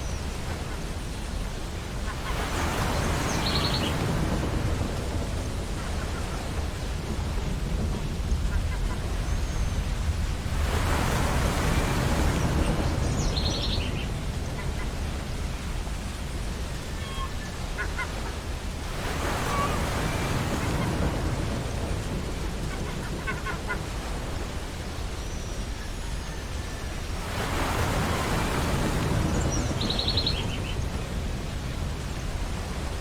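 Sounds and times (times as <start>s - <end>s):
ocean waves on beach: 0.0s - 33.0s.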